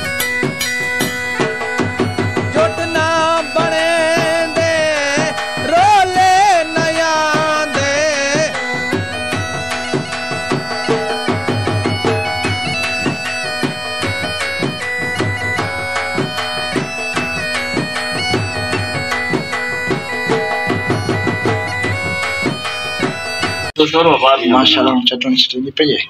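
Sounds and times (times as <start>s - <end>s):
wind instrument melody: 0.0s - 25.2s
drum beats: 0.0s - 26.0s.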